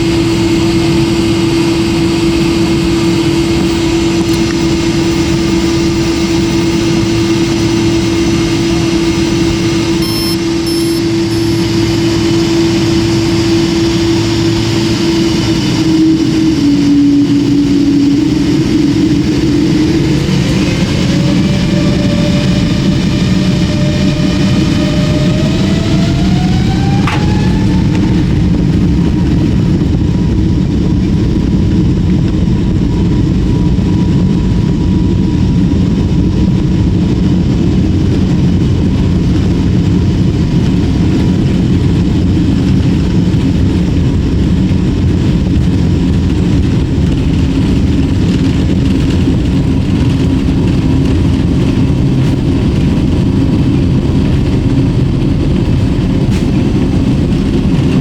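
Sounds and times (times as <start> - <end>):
engine and airflow rumble: 0.0 - 58.0
faint steady whine: 0.0 - 58.0.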